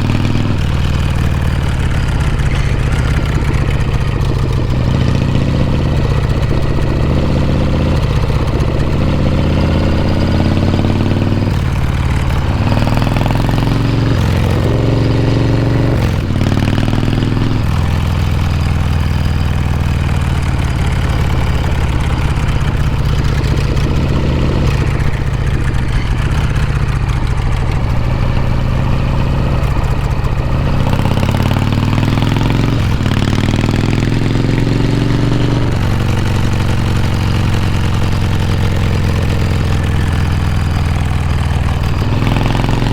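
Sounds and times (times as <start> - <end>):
motorcycle exhaust while riding: 0.0 - 42.9.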